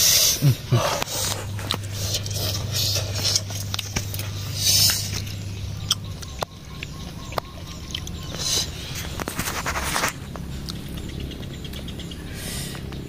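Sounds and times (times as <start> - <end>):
person chewing: 0.0 - 11.0
low hum: 0.0 - 13.0.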